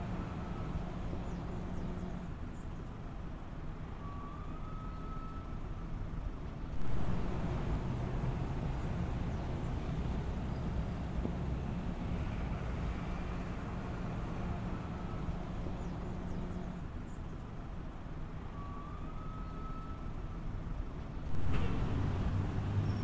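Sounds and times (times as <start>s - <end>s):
low rumble of motor vehicles: 0.0s - 23.0s.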